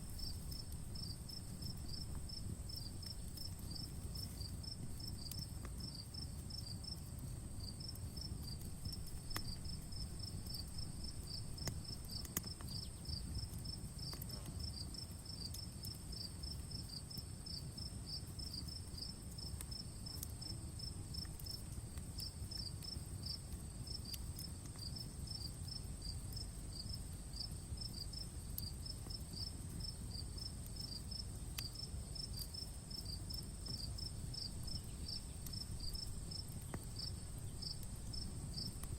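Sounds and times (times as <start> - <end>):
campfire crackling pops: 0.0 - 38.9
crickets chirping: 0.0 - 38.9.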